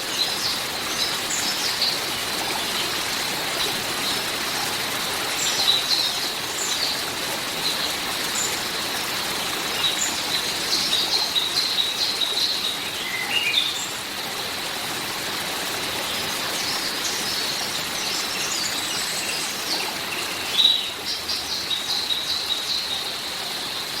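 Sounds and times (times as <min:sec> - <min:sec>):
hiss of rain or running water: 0:00.0 - 0:24.0.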